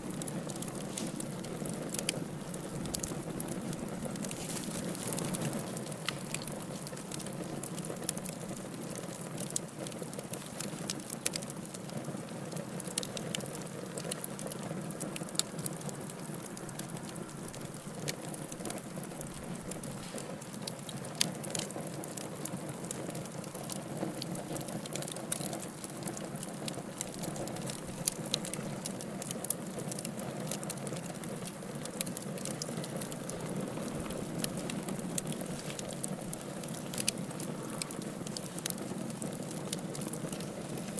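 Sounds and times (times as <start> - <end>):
fire crackles and pops: 0.0 - 40.9
fire hissing and rumbling: 0.0 - 40.9.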